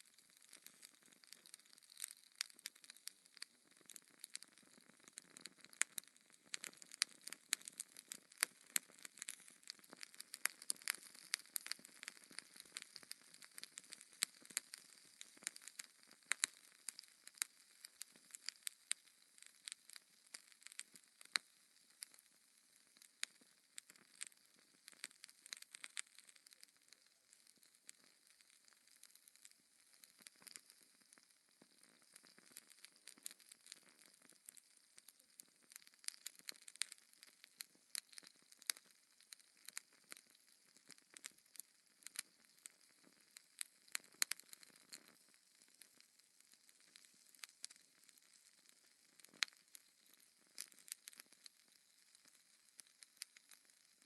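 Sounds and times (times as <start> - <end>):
wood fire crackling: 0.0 - 22.2, 22.9 - 54.0.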